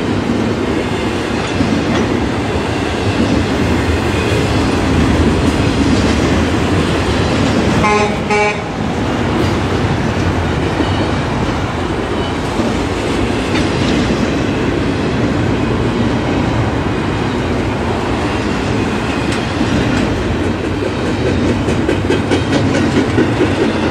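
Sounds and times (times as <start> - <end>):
train wheels clickety-clack: 0.0 - 23.9.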